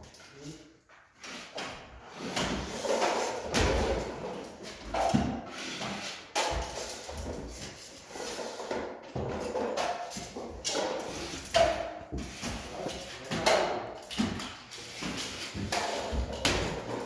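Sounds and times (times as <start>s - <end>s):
drywall tape scraping and knocking: 0.0s - 17.0s.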